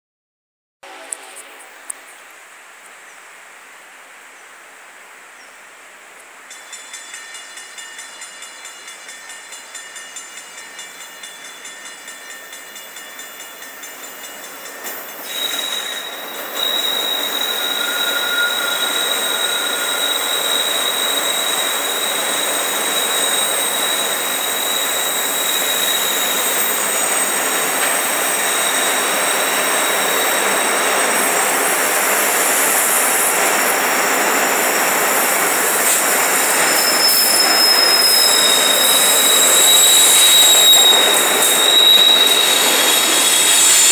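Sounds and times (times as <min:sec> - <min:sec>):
train wheels screeching: 0:06.5 - 0:43.9.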